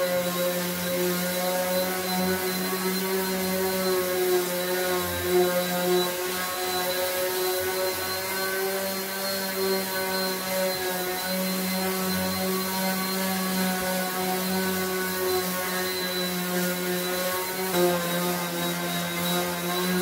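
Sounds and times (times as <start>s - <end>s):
electric sander running: 0.0s - 20.0s.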